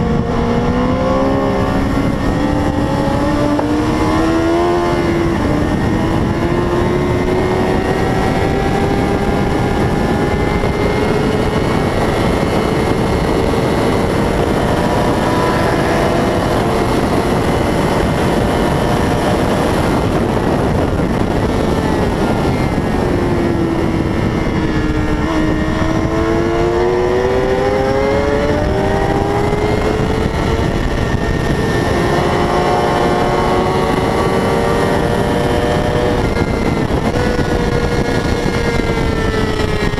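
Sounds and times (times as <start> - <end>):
constant rush of noise: 0.0 - 39.9
racing motorcycle engine revving: 0.0 - 39.9.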